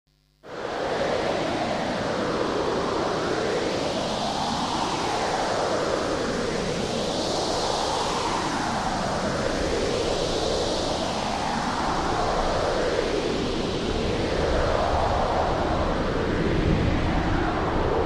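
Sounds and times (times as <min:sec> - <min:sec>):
strong wind blowing: 0:00.5 - 0:18.0.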